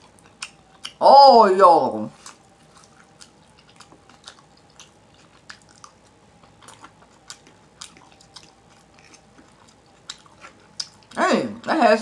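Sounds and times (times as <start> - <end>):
chewing with wet lip smacks: 0.0 - 1.0, 2.1 - 11.2.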